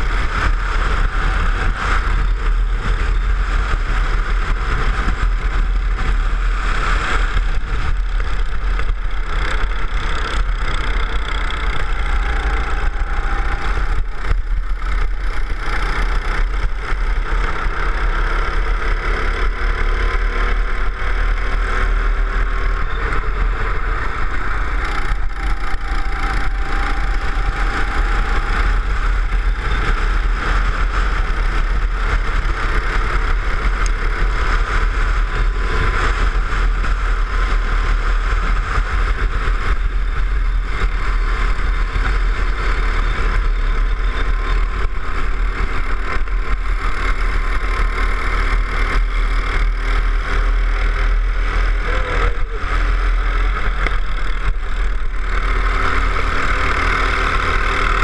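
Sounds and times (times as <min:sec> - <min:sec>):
go-kart engine running: 0:00.0 - 0:58.0
heavy steady rumble: 0:00.0 - 0:58.0.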